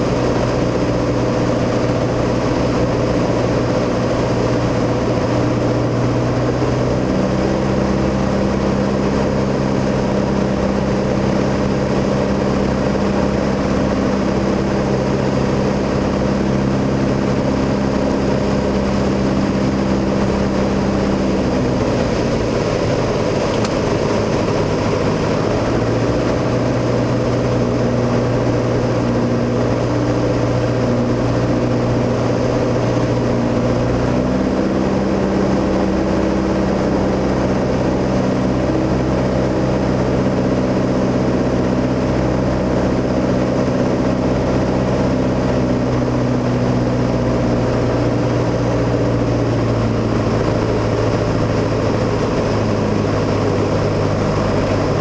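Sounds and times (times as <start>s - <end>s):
airplane engine and propeller: 0.0s - 55.0s.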